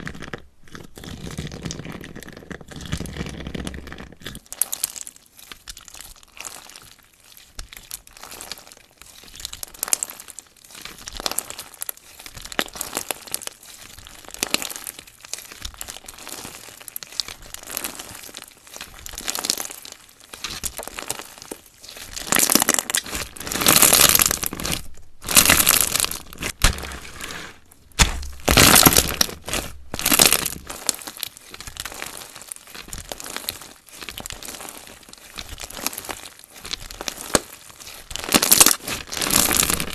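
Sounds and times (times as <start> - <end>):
slime squelching: 0.0 - 39.9
slime squished by hand: 0.0 - 39.9.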